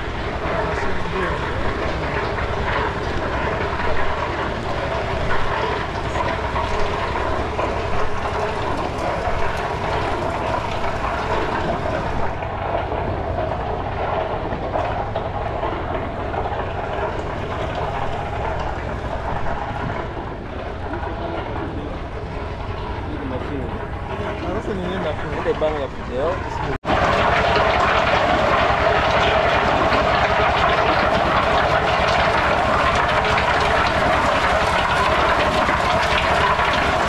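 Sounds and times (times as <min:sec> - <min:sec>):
stationary engine clattering: 0:00.0 - 0:37.0.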